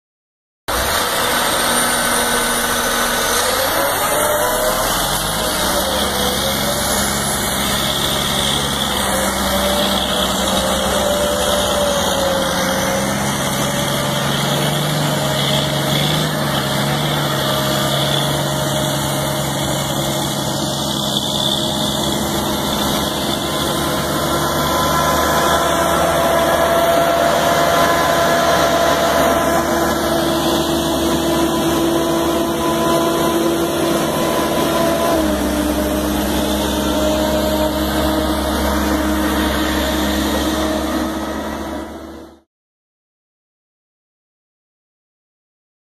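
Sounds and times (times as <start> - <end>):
heavy diesel engines under load: 0.7 - 42.5.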